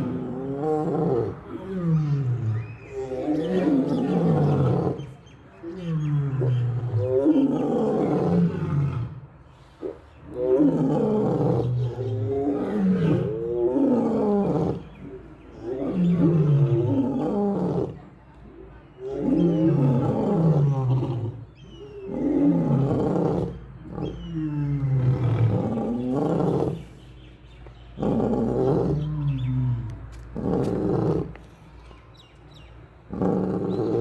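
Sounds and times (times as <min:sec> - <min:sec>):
lion roaring: 0:00.0 - 0:05.1, 0:05.7 - 0:09.2, 0:09.8 - 0:18.0, 0:19.0 - 0:26.9, 0:28.0 - 0:31.3, 0:33.1 - 0:34.0.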